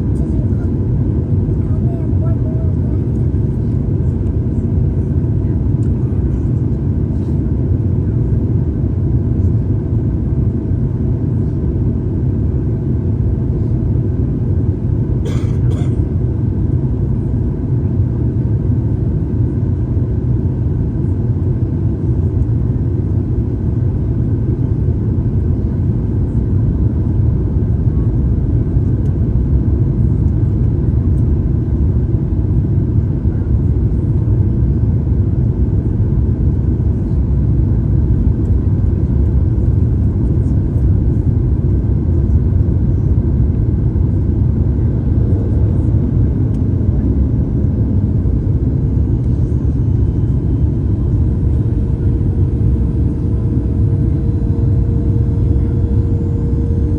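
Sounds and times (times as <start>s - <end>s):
jet engine and airflow rumble: 0.0s - 56.9s.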